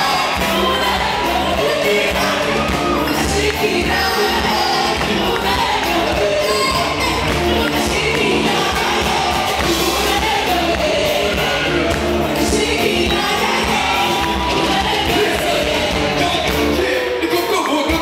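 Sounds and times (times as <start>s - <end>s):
steady bass: 0.0s - 17.0s
amplified band with keyboard: 0.0s - 18.0s
singers singing gospel: 0.0s - 18.0s.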